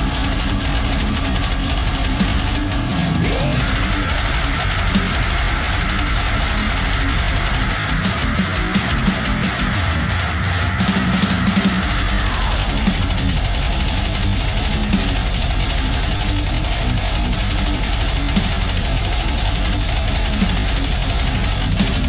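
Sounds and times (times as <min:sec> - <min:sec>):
music with guitar and drums: 0:00.0 - 0:22.0.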